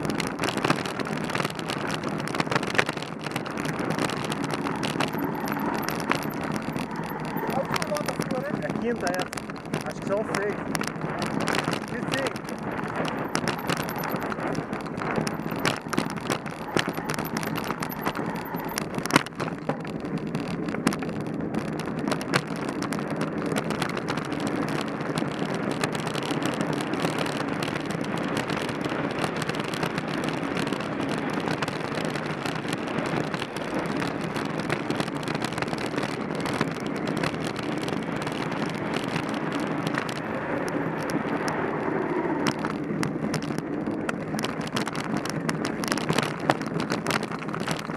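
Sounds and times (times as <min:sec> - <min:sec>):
bike rattles and knocks: 0:00.0 - 0:47.9
bike tyre and riding noise: 0:00.0 - 0:47.9.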